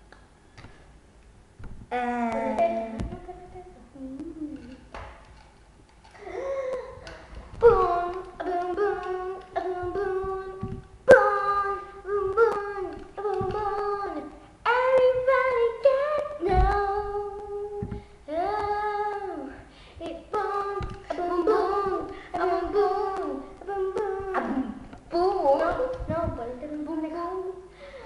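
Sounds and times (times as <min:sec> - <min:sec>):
girls singing: 0:01.9 - 0:05.0, 0:06.2 - 0:27.7.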